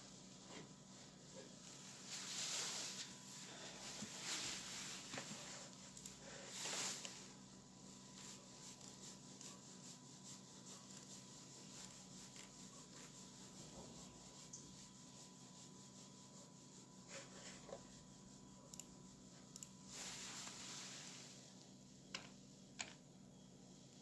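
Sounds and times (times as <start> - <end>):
steady low hum: 0.0 - 24.0
faint rubbing: 0.4 - 19.0, 19.9 - 21.4.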